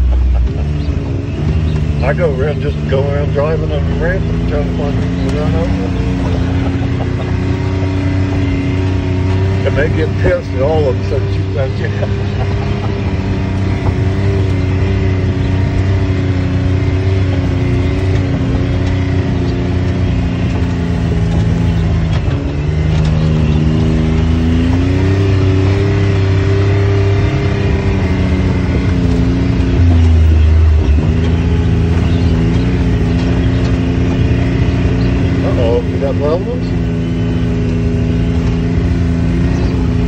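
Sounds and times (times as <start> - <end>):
utility vehicle engine revving: 0.0 - 40.0.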